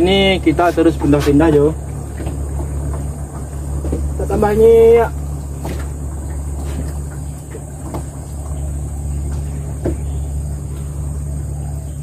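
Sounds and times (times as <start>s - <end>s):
boat engine humming: 0.0s - 12.0s
faint knocks: 0.9s - 11.1s.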